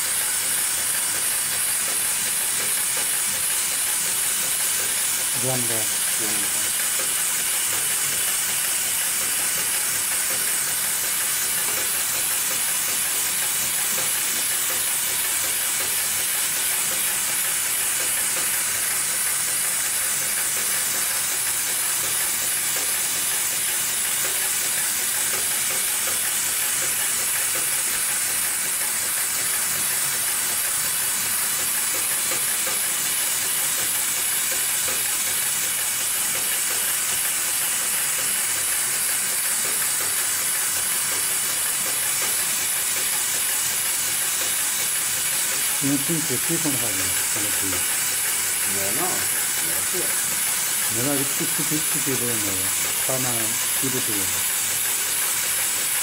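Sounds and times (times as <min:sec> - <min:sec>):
industrial sewing machine stitching: 0:00.0 - 0:56.0
steady hiss: 0:00.0 - 0:56.0.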